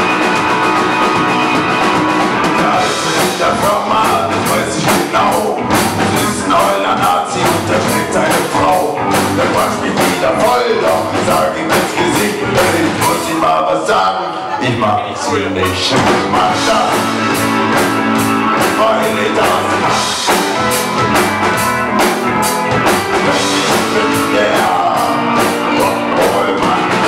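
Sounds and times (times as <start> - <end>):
drum kit: 0.0 - 13.6, 15.6 - 27.0
electric guitar: 0.0 - 27.0.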